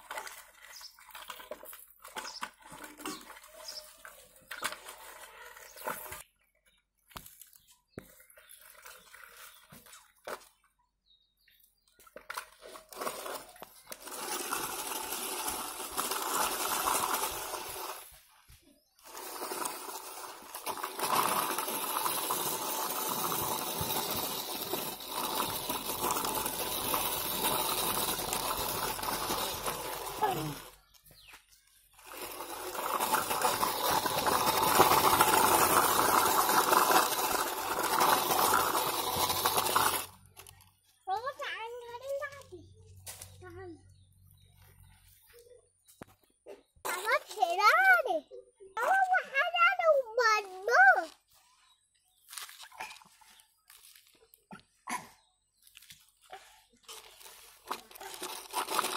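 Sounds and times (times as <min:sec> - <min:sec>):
toy truck wheels scraping dirt: 0:00.0 - 0:10.6, 0:11.2 - 0:45.4, 0:55.5 - 0:58.9.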